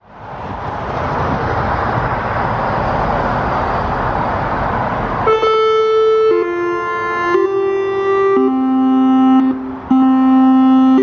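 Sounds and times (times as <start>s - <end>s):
rushing outdoor background noise: 0.0s - 11.0s.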